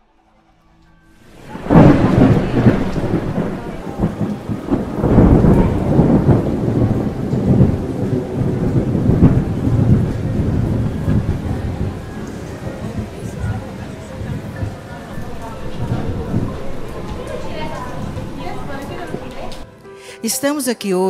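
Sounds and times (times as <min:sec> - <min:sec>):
heavy rain falling: 0:01.1 - 0:20.2
rolling thunder: 0:01.2 - 0:19.7.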